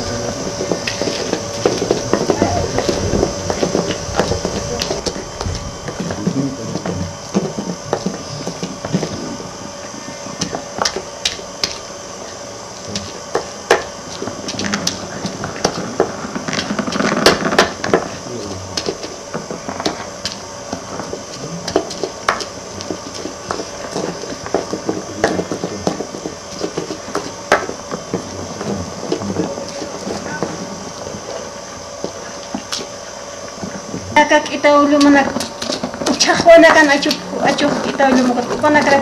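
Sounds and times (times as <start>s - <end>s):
grinding and scraping in dish: 0.0s - 39.0s.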